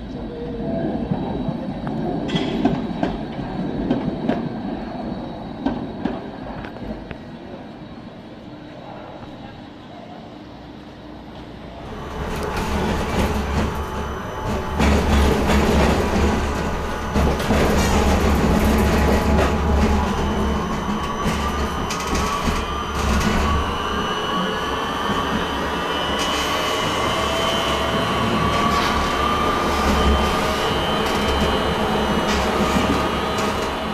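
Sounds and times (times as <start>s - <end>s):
tram wheels rumbling on rails: 0.0s - 33.9s.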